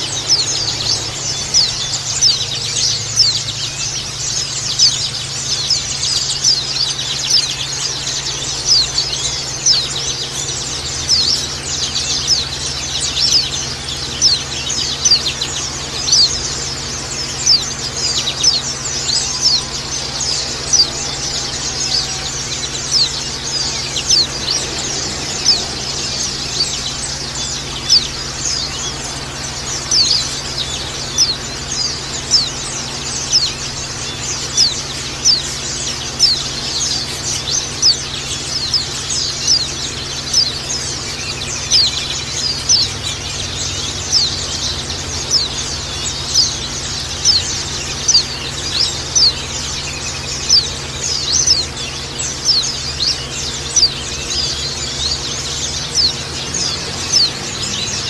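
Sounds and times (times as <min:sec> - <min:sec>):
flock of birds twittering: 0:00.0 - 0:58.0
steady low hum: 0:00.0 - 0:58.0.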